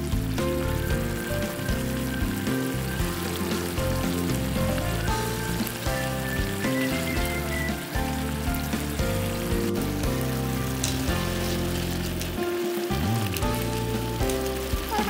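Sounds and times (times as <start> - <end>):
background music of steady chords: 0.0 - 15.0
sauce sizzling in a frying pan: 0.0 - 15.0.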